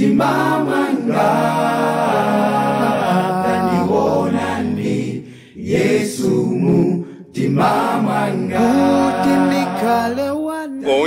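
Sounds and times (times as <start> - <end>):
voices singing in harmony: 0.0 - 11.0.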